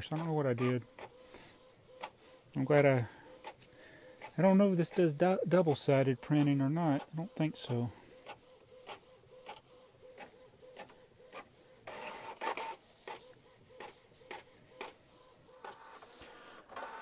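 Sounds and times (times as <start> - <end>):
inkjet printer clicking and whirring: 0.0 - 17.0.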